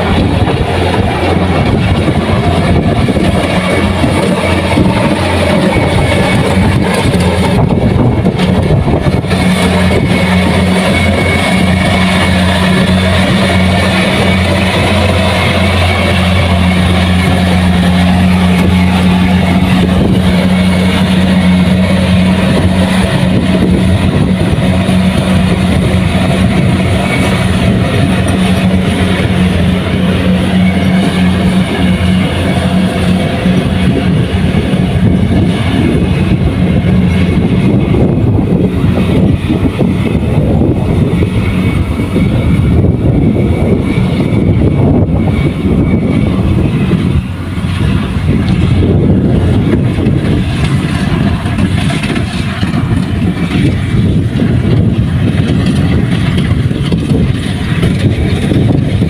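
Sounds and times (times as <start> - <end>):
combine harvester engine droning: 0.0 - 59.0
machinery noise: 0.0 - 59.0.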